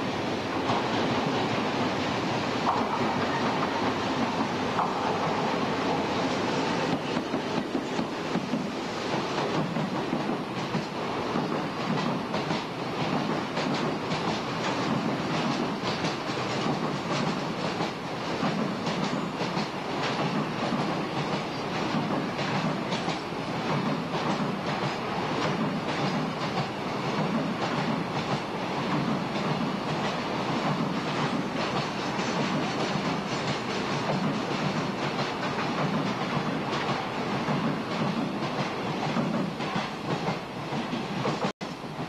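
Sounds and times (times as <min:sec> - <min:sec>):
steel wheels rumbling on rail: 0:00.0 - 0:42.0.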